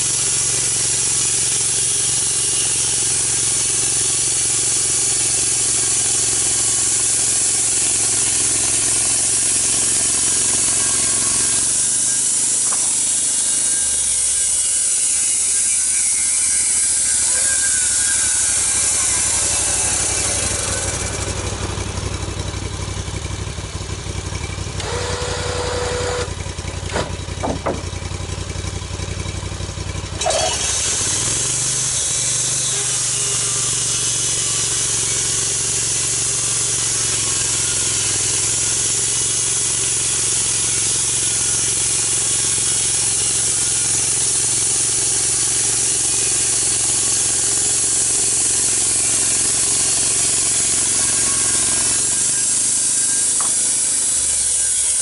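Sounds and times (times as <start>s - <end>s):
loud steady hiss: 0.0s - 23.0s, 31.0s - 55.0s
small engine running: 0.0s - 55.0s.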